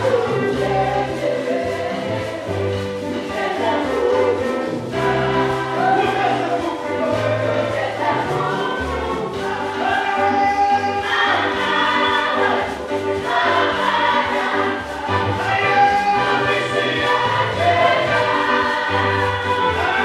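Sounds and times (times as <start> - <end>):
choir singing gospel song: 0.0 - 20.0.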